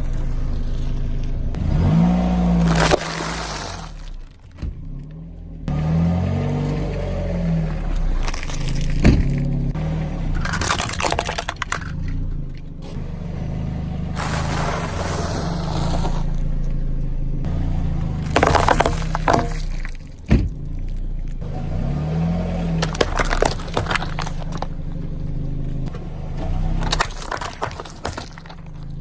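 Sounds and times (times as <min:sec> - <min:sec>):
tyre crushing objects: 0:01.6 - 0:12.3, 0:14.1 - 0:16.4, 0:17.5 - 0:29.0.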